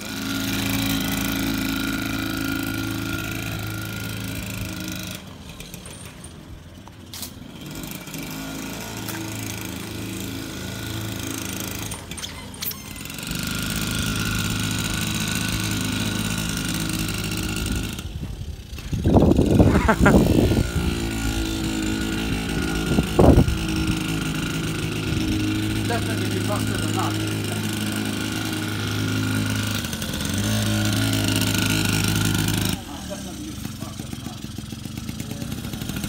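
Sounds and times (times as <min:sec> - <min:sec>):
moped engine running: 0:00.0 - 0:36.0.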